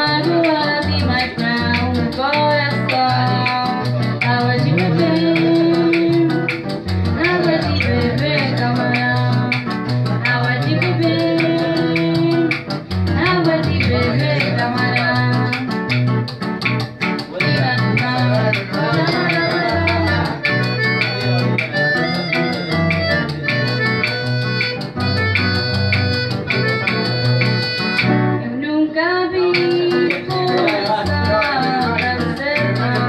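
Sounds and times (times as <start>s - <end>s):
accordion chords and melody: 0.0s - 28.5s, 29.4s - 33.0s
acoustic guitar strummed: 0.0s - 28.6s, 29.3s - 33.0s.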